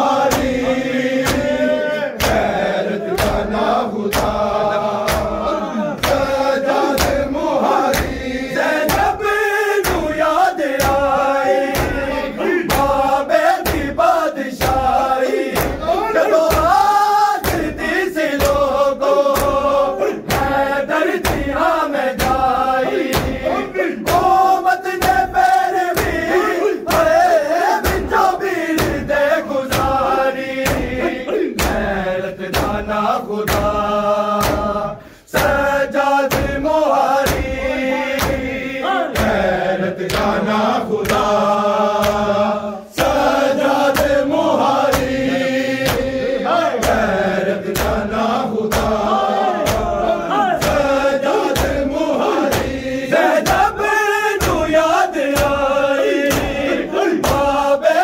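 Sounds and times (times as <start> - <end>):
men chanting in unison: 0.0 - 58.0
chest-beating slaps: 0.1 - 57.7.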